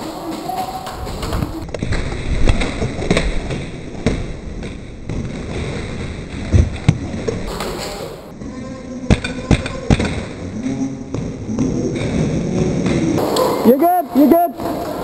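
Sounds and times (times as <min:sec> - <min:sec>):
arena background noise: 0:00.0 - 0:15.0.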